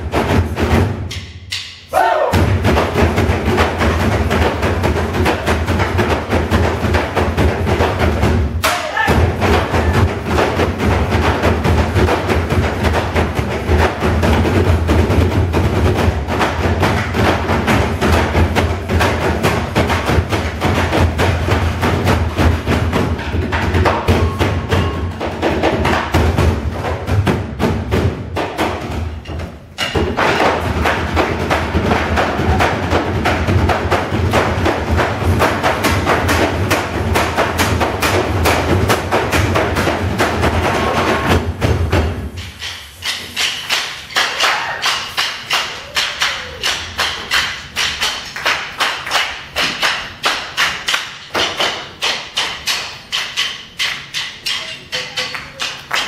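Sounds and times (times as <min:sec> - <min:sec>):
percussion ensemble drumming: 0:00.0 - 0:56.0.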